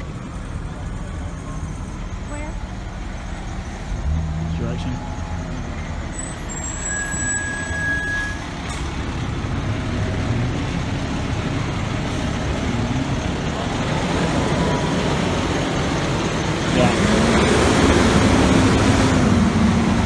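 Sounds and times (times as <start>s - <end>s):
fire truck diesel engine: 0.0s - 20.0s.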